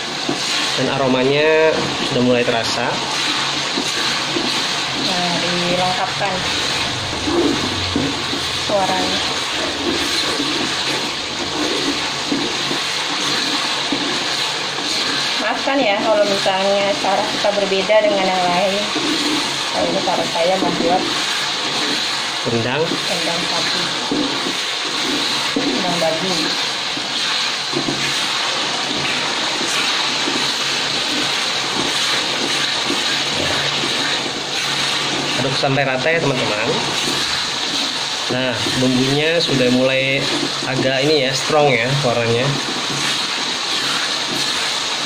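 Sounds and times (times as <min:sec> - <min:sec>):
paste sizzling in hot oil: 0:00.0 - 0:45.0
spatula stirring in wok: 0:00.0 - 0:45.0.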